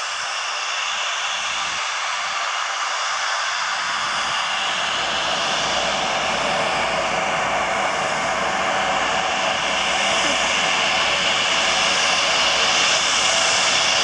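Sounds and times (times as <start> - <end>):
turboprop aircraft taxiing: 0.0 - 14.0.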